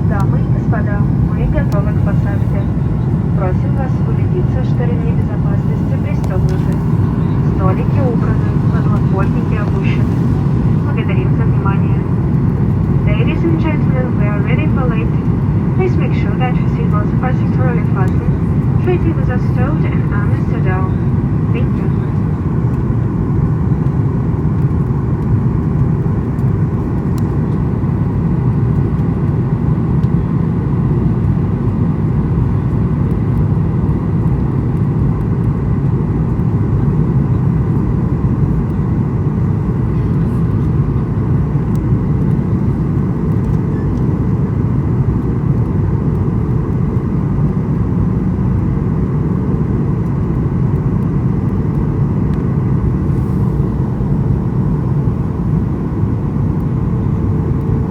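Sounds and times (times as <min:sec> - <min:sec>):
airliner engine and airflow rumble: 0:00.0 - 0:57.9
faint steady whine: 0:00.0 - 0:57.9.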